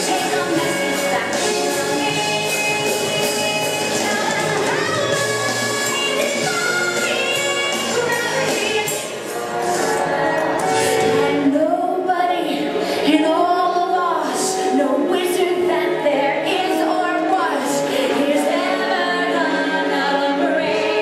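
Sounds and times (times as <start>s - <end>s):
backing track music: 0.0s - 21.0s.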